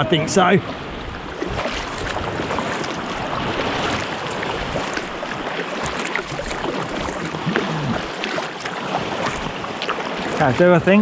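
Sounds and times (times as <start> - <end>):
water splashing around kayak: 0.6 - 11.0.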